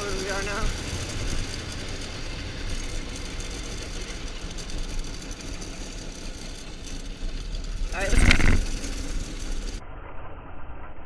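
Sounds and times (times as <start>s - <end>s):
dirt bike engine running: 0.0s - 9.8s.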